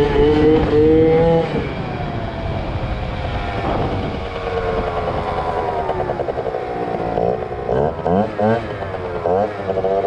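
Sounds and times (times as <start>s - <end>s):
scooter engine revving: 0.0s - 10.0s.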